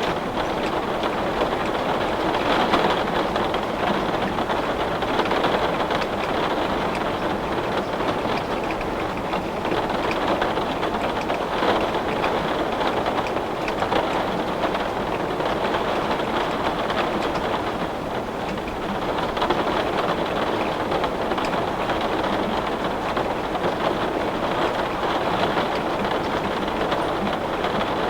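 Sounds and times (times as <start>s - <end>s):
heavy rain on window: 0.0s - 28.0s.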